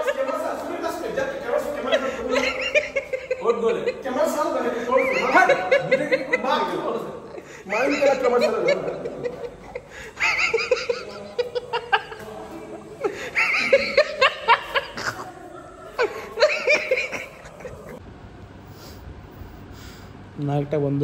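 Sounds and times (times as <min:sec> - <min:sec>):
men laughing: 0:00.0 - 0:18.0.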